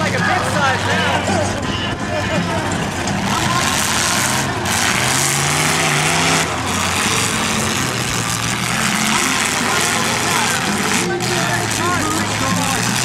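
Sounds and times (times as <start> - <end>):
car engines revving together: 0.0 - 13.0.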